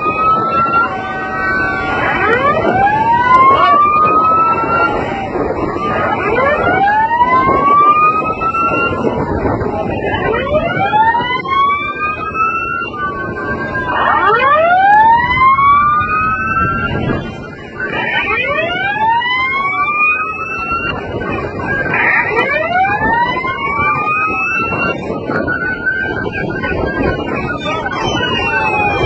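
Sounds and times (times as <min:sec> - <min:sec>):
sirens wailing: 0:00.0 - 0:29.0.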